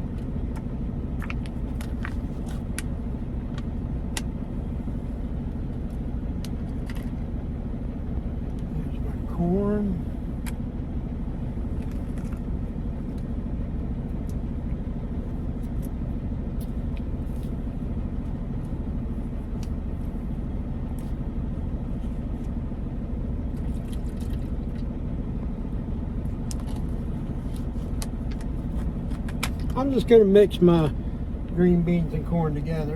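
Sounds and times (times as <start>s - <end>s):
truck diesel engine idling: 0.0s - 32.9s.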